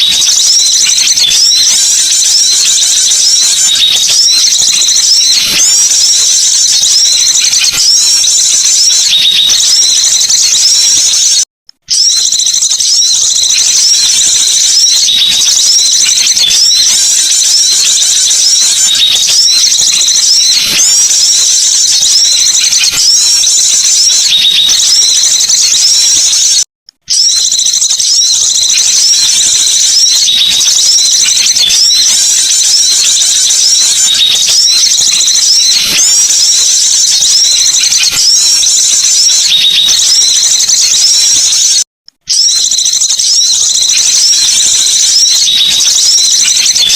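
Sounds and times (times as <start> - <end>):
songbirds twittering and chirping: 0.0 - 46.9.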